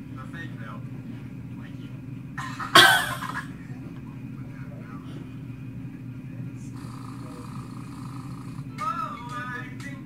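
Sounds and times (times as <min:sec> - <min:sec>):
faint muffled voices: 0:00.0 - 0:10.0
steady low hum: 0:00.0 - 0:10.0.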